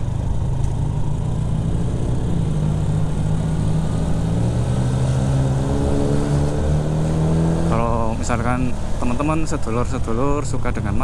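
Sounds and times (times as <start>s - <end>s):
scooter engine accelerating: 0.0s - 9.6s.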